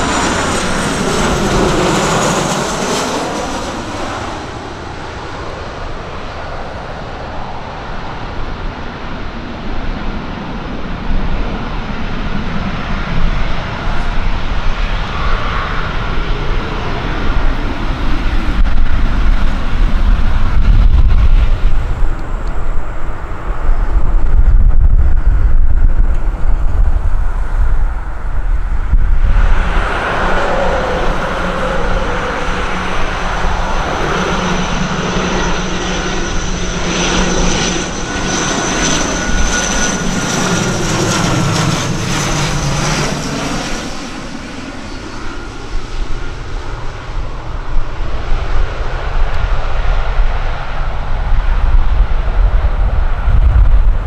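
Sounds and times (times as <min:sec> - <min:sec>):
jet engines on approach: 0:00.0 - 0:54.0
jet landing rumble: 0:00.0 - 0:54.0
turboprop propellers droning: 0:00.0 - 0:54.0.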